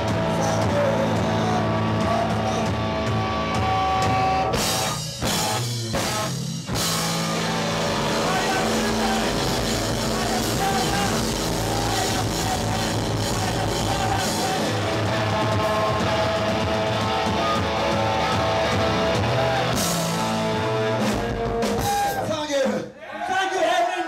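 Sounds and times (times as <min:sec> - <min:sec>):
live punk rock band: 0:00.0 - 0:22.8.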